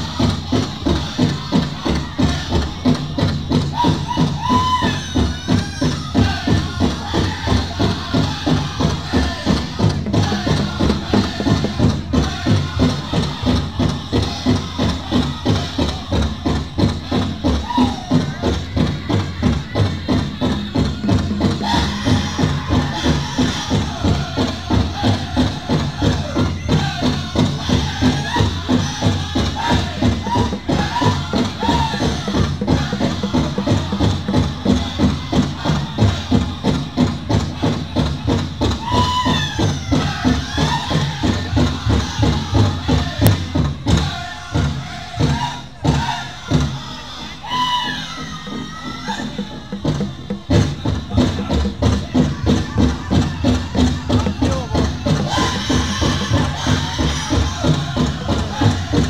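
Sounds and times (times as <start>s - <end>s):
large hand drum beating: 0.0s - 46.9s, 48.1s - 59.0s
people singing: 0.0s - 59.0s.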